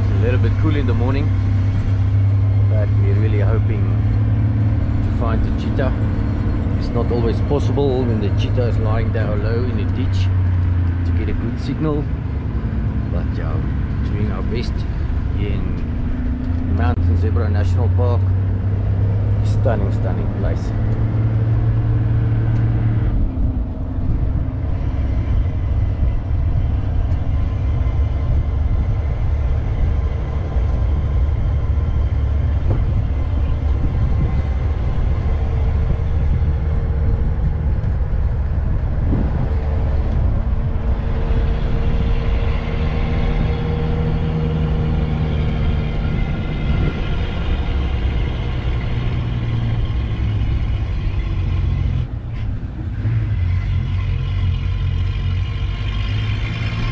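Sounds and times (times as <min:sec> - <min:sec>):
road rumble: 0:00.0 - 0:56.9
vehicle engine drone: 0:00.0 - 0:56.9.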